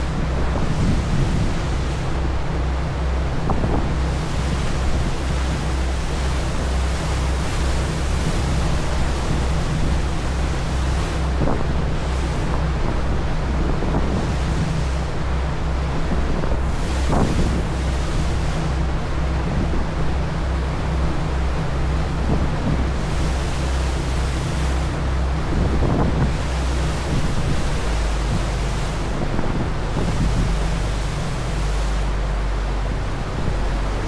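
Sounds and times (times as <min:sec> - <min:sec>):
churning boat wake rushing: 0:00.0 - 0:34.0
low engine drone: 0:00.0 - 0:34.0
wind buffeting microphone: 0:00.0 - 0:34.0.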